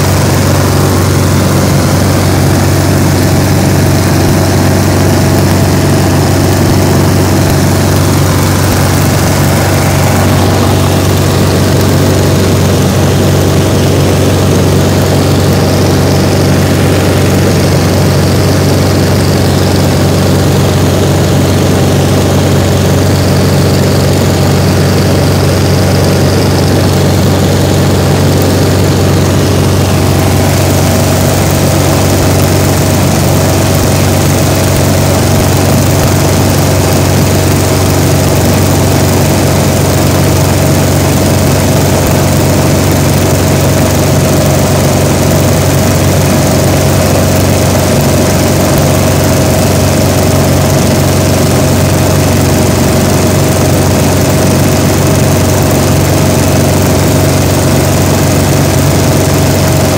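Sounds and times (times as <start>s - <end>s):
airplane engine and propeller droning: 0.0s - 59.9s.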